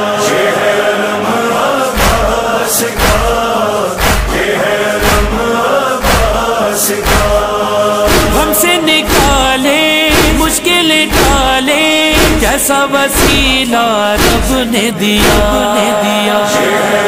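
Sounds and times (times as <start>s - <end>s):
chorus of voices chanting: 0.0s - 17.0s
deep steady beat: 2.0s - 15.8s.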